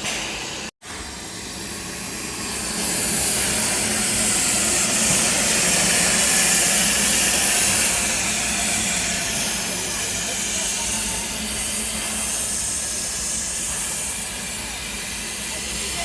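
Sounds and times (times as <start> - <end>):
steam locomotive hissing steam: 0.0 - 16.0.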